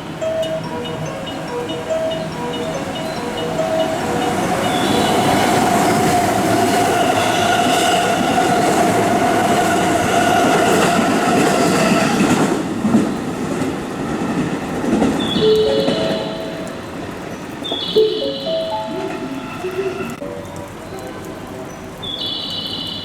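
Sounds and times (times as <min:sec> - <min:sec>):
electric train passing at speed: 0:00.0 - 0:23.0.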